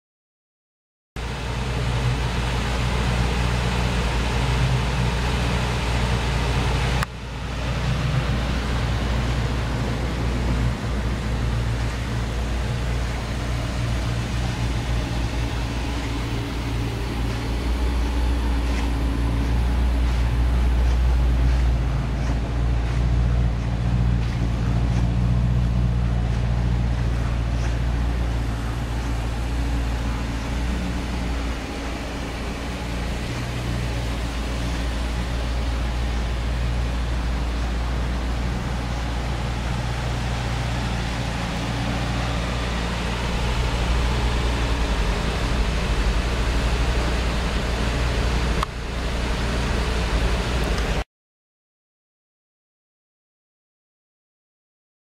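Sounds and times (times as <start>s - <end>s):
car engine idling: 1.2s - 51.0s.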